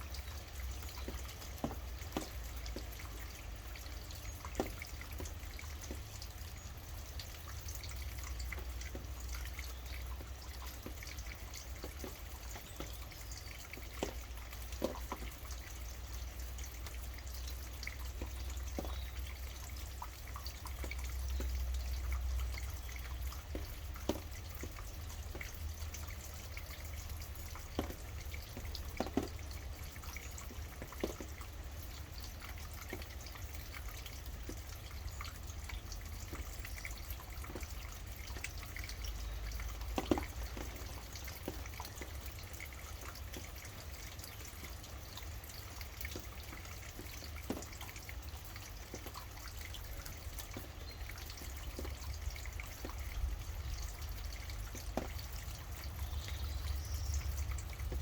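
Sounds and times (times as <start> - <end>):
constant low rumble: 0.0 - 58.0
steady rainfall: 0.0 - 58.0.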